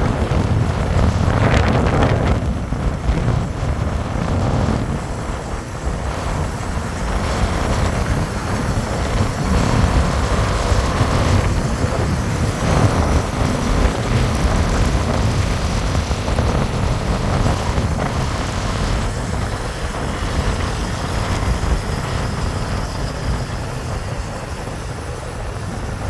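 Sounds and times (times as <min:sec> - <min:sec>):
motorcycle engine and road rumble: 0:00.0 - 0:26.0
wind buffeting microphone: 0:00.0 - 0:26.0.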